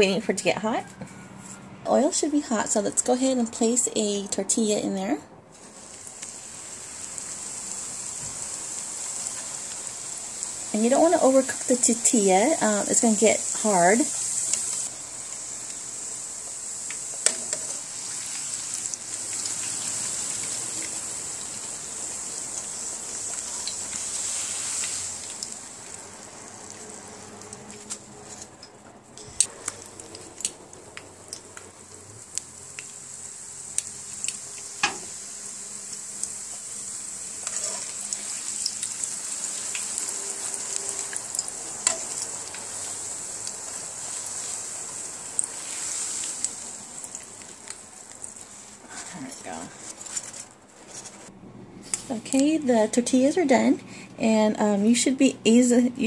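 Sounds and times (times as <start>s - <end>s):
tortilla frying in oil: 5.5s - 52.3s.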